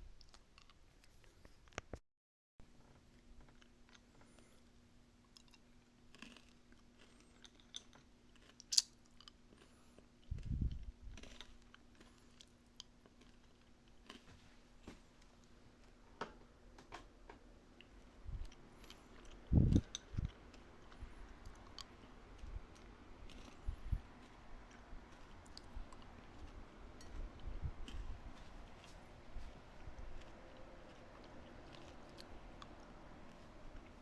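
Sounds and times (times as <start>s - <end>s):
chewing and crunching food: 0.0s - 2.0s, 2.8s - 16.0s, 17.6s - 34.0s
faint steady hum: 2.6s - 34.0s.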